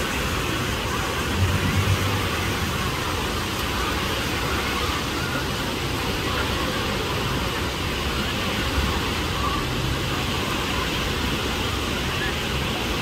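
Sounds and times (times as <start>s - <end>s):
crowd of bathers: 0.0s - 13.0s.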